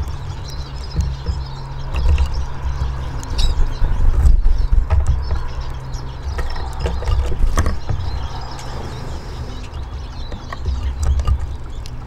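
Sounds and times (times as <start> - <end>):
birds pecking on wood: 0.0 - 12.0
high bird twittering: 0.0 - 12.0
low rumble: 0.0 - 12.0.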